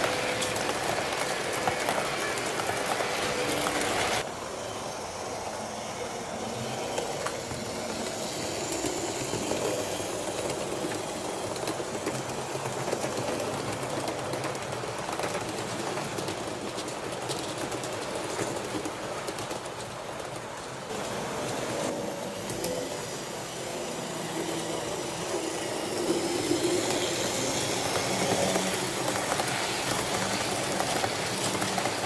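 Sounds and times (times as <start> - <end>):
train rolling along rails: 0.0 - 32.0.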